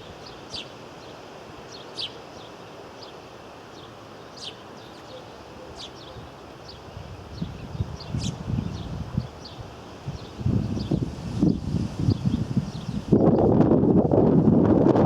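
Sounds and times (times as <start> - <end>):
small birds chirping: 0.0 - 13.5
outdoor background hiss: 0.0 - 15.0.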